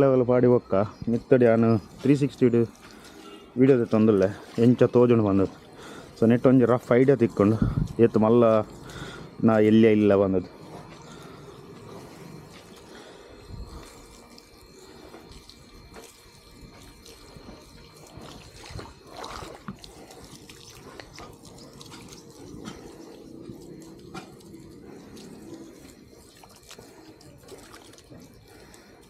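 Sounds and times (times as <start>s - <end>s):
water dripping and trickling: 0.0s - 29.0s.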